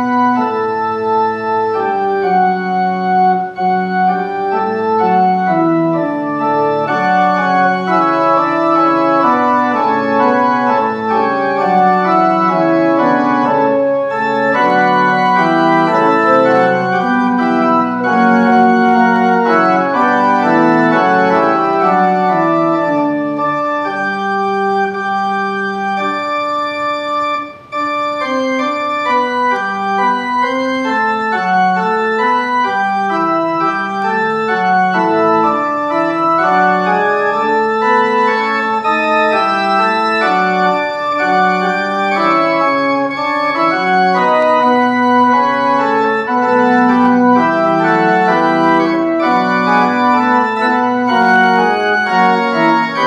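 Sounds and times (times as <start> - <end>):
church organ sustained chords: 0.0 - 53.0.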